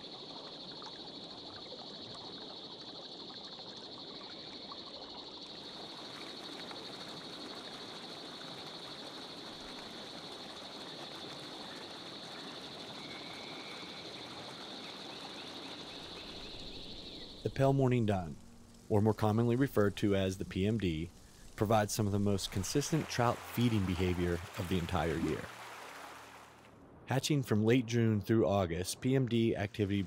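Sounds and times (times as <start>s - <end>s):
stream water flowing: 0.0s - 26.8s.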